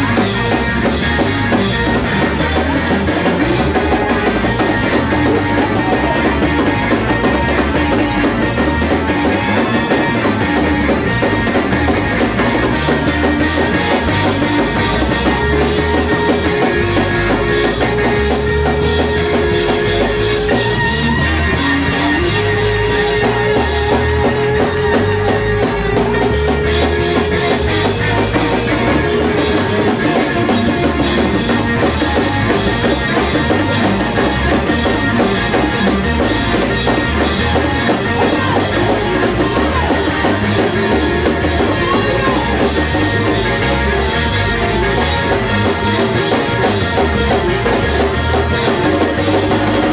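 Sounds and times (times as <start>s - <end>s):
drum kit pounding fast beat: 0.0s - 49.9s
guitar: 0.0s - 49.9s
long held notes: 0.0s - 49.9s.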